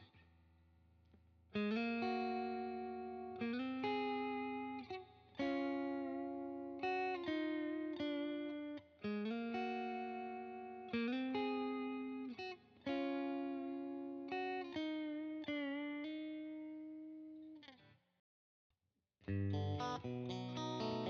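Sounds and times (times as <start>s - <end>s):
overdriven electric guitar chords: 1.6s - 17.6s, 19.3s - 21.0s.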